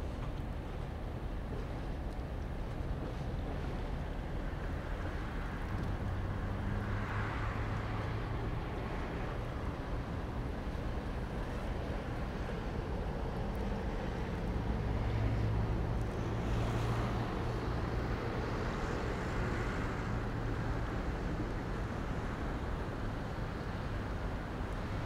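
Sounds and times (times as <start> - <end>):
boat diesel engine drone: 0.0 - 25.0.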